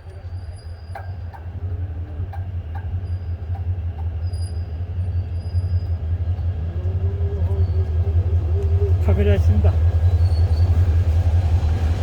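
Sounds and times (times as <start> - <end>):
train deep rumble: 0.0 - 12.0.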